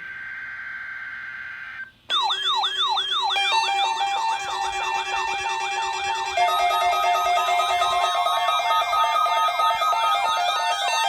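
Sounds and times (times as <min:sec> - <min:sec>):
beeping alarm tones: 0:02.1 - 0:11.0
steady alarm tone: 0:02.1 - 0:11.0.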